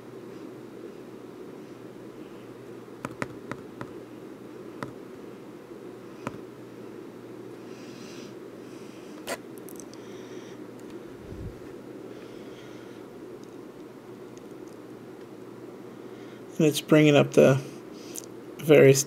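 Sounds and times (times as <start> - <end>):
low buzzing hum: 0.0 - 19.0.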